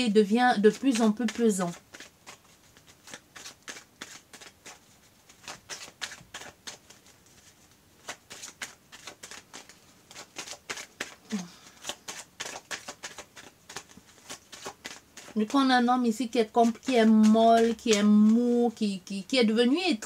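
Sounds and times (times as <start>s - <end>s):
cards being shuffled: 0.6s - 15.7s, 16.4s - 18.6s.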